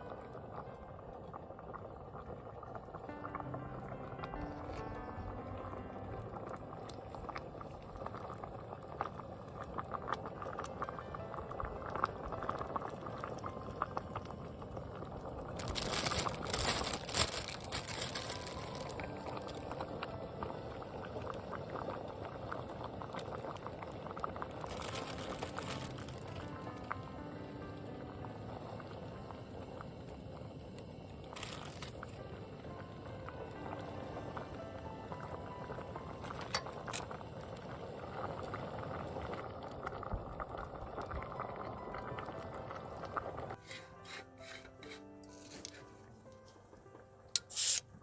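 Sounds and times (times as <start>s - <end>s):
liquid simmering in a pot: 0.0s - 16.5s, 17.6s - 45.0s.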